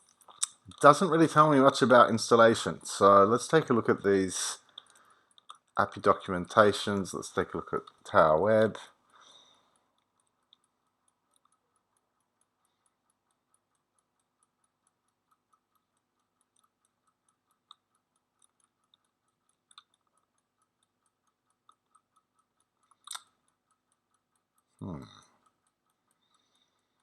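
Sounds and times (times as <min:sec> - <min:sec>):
clock ticking: 0:00.0 - 0:27.0.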